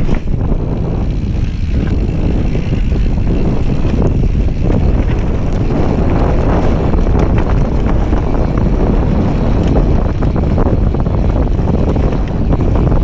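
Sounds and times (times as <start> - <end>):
bike clicks and knocks: 0.0 - 13.0
bike tyres rolling on dirt: 0.0 - 13.0
wind buffeting microphone: 0.0 - 13.0.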